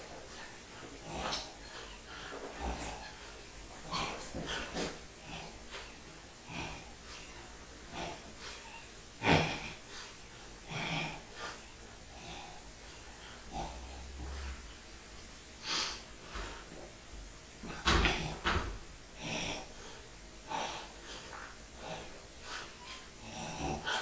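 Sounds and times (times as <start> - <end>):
person breathing hard and snorting: 0.2 - 14.7, 15.6 - 16.9, 19.2 - 24.0.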